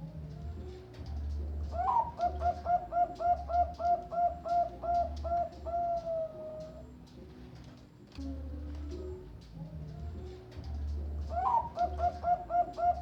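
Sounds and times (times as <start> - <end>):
dove cooing: 0.0 - 7.6, 8.2 - 13.0.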